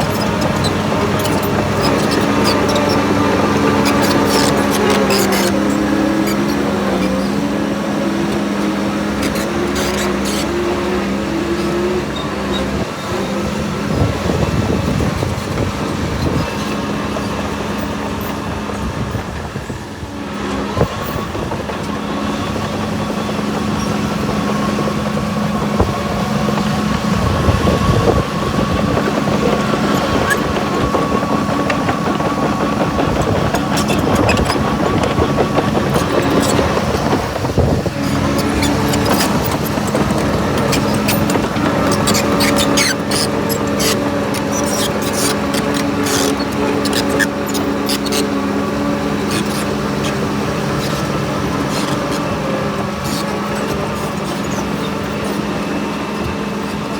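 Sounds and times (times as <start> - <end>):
heavy machinery diesel engines: 0.0 - 56.9.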